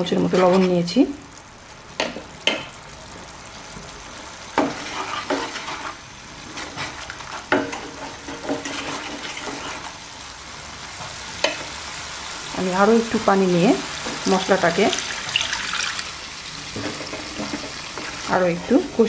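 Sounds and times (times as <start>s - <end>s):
spice paste sizzling and bubbling: 0.0s - 19.0s.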